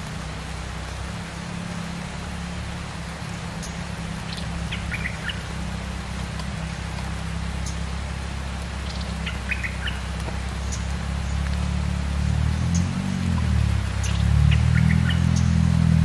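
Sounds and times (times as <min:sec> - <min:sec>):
rain patter: 0:00.0 - 0:16.0.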